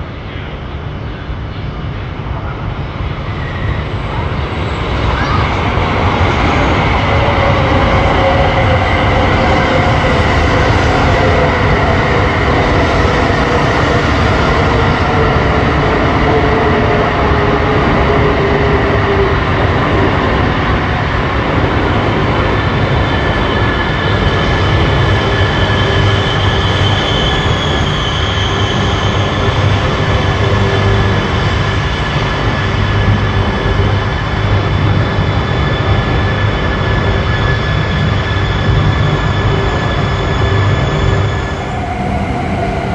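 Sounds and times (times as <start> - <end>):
train wheels rumbling on rail: 0.0 - 42.9
train whine: 0.0 - 42.9.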